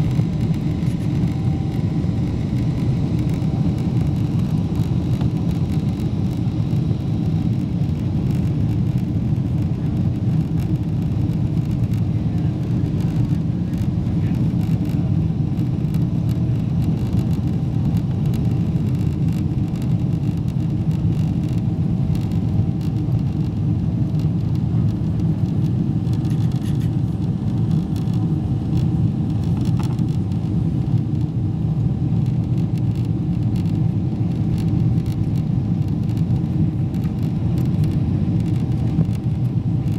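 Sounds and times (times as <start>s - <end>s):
faint steady whines: 0.0s - 39.9s
jet engines at climb power: 0.0s - 39.9s.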